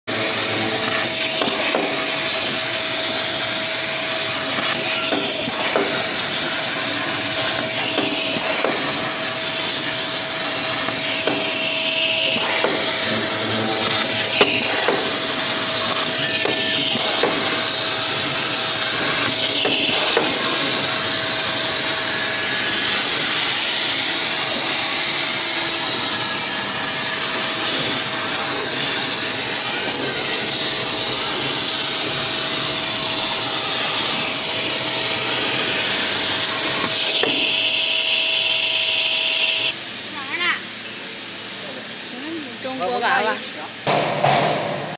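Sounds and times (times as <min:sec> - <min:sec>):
plasma cutter clicks: 0:00.1 - 0:39.2
plasma cutter arc hissing: 0:00.1 - 0:41.6.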